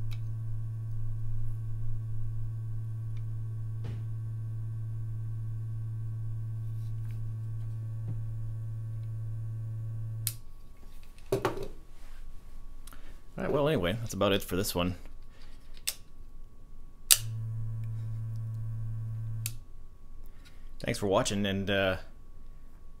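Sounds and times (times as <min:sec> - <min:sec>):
lamp power supply humming: 0:00.0 - 0:23.0.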